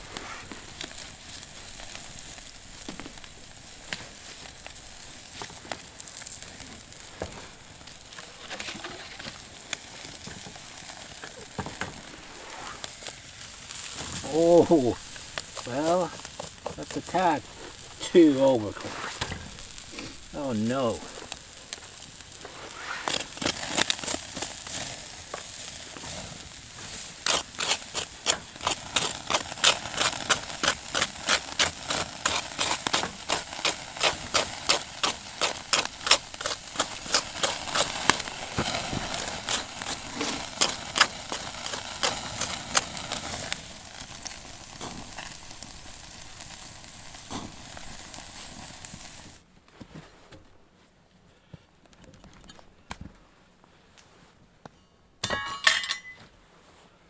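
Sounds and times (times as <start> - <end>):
crackling background: 0.0 - 54.8.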